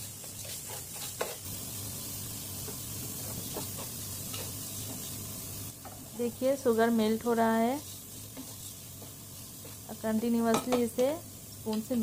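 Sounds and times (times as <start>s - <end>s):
butter and sugar sizzling in a pan: 0.0s - 12.0s
spoon stirring and scraping pan: 0.0s - 12.0s.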